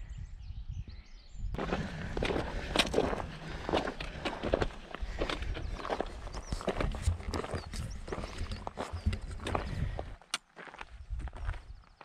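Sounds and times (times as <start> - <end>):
footsteps on stony path: 1.6 - 12.0.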